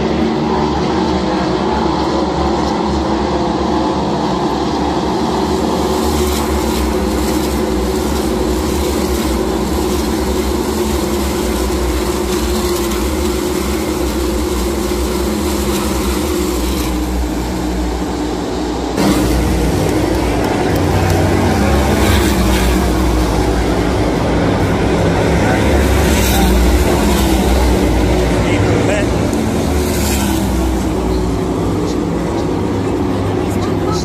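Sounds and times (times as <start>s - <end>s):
race car engines droning: 0.0s - 34.0s.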